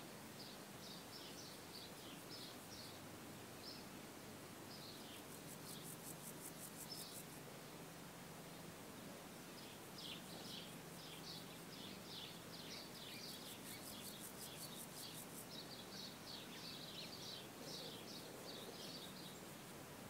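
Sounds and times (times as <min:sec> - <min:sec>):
small birds chirping: 0:00.3 - 0:04.0, 0:04.6 - 0:07.4, 0:09.4 - 0:19.7.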